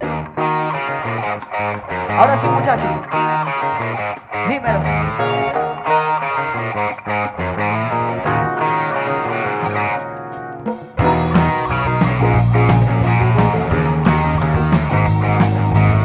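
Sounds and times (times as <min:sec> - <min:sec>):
drums: 0:00.0 - 0:16.0
guitar: 0:00.0 - 0:16.0
live band playing: 0:00.0 - 0:16.0.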